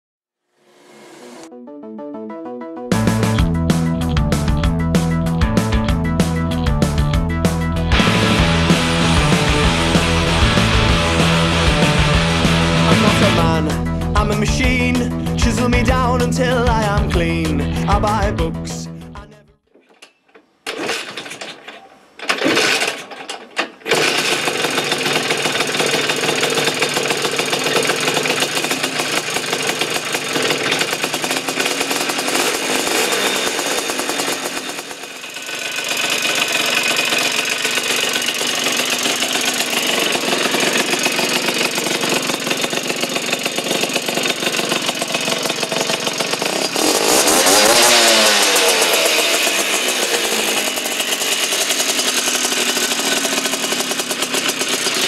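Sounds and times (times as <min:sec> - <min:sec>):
scooter engine starting and revving: 0:00.6 - 0:01.5, 0:02.9 - 0:19.1, 0:20.7 - 0:55.0.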